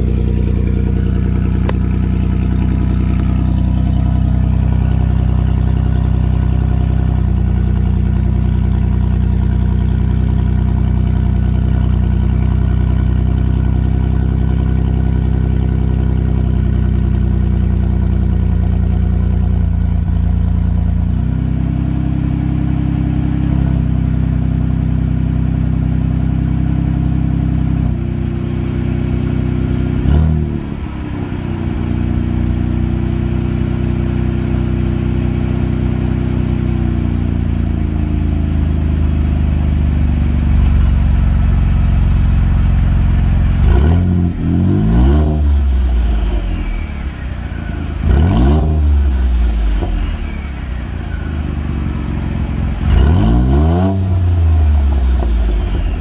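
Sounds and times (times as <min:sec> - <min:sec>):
unmuffled engine drone: 0:00.0 - 0:56.0.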